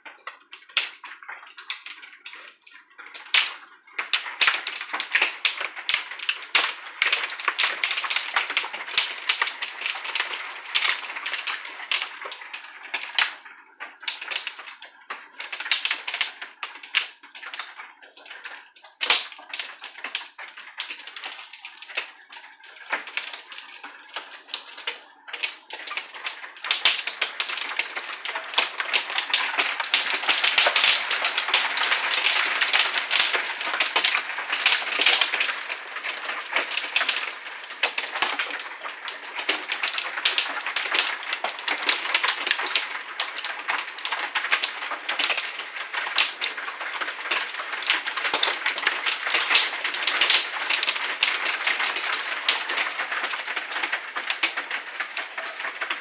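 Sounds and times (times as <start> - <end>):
hail and rain pelting wood and glass: 0.0 - 56.0.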